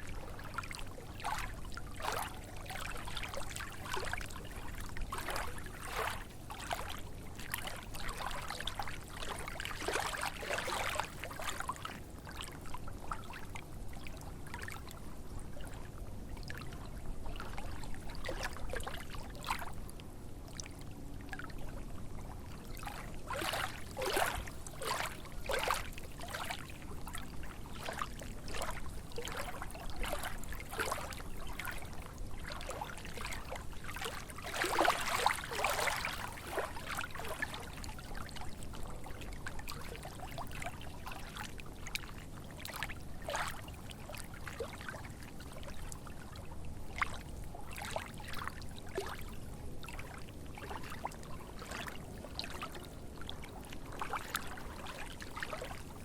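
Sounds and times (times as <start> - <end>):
lake waves lapping and splashing: 0.0 - 15.0, 16.4 - 19.8, 20.4 - 56.0.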